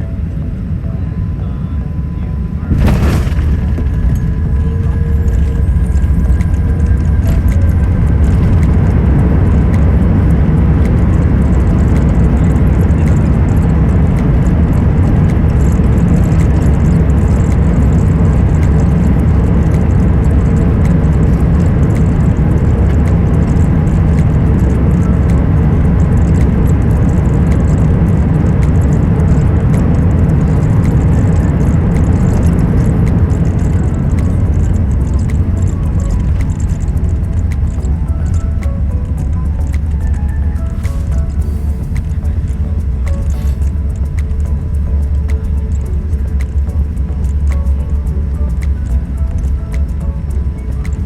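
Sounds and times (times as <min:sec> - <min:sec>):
airplane cabin rumble: 0:00.0 - 0:51.0.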